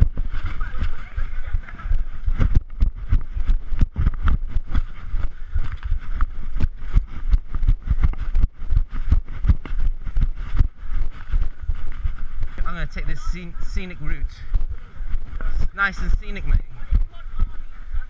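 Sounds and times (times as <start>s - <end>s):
running footsteps thudding: 0.0s - 13.2s, 14.4s - 17.7s
low rumble on microphone: 0.0s - 18.0s.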